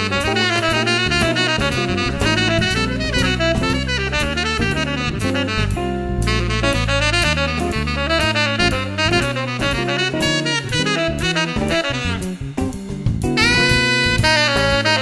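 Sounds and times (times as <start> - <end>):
drum kit with cymbals: 0.0 - 15.0
electric bass guitar: 0.0 - 15.0
saxophone melody: 0.0 - 15.0.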